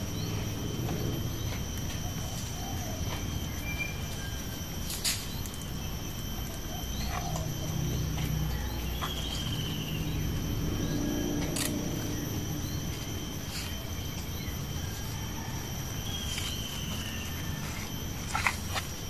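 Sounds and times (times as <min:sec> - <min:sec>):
high-pitched insect trill: 0:00.0 - 0:19.0
bird-like chirps: 0:01.3 - 0:18.0.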